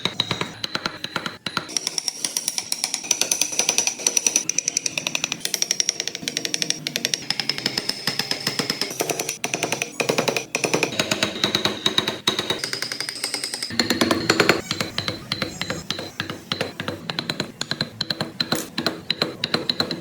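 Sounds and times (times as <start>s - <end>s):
power carving tool hammering wood: 0.0s - 20.0s.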